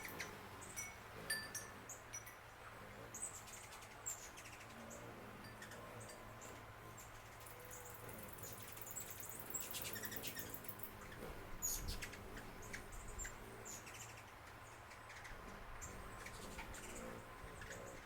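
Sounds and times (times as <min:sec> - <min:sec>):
faint low hum: 0:00.0 - 0:18.0
small birds chirping: 0:00.0 - 0:18.0.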